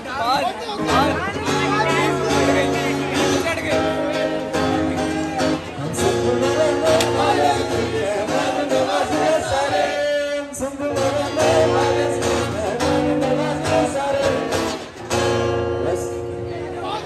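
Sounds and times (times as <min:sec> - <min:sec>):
acoustic guitar strumming: 0:00.6 - 0:17.0
man singing: 0:00.8 - 0:17.0.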